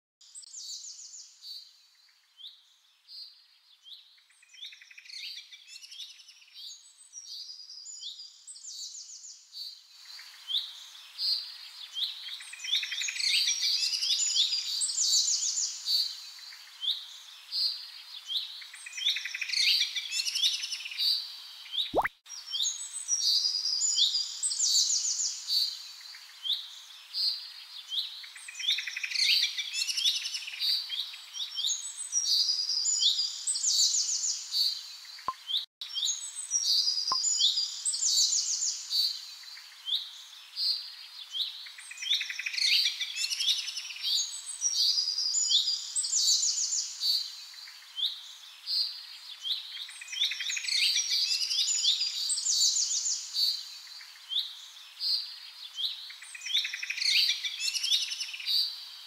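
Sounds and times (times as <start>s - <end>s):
small birds chirping: 0.3s - 59.0s.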